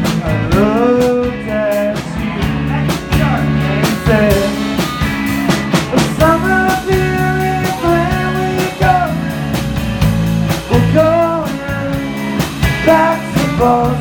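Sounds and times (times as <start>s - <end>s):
drum kit beat: 0.0s - 14.0s
electric guitar: 0.0s - 14.0s.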